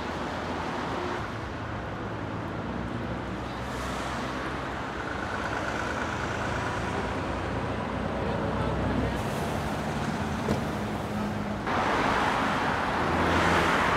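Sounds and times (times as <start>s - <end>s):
traffic passing: 0.0s - 13.9s.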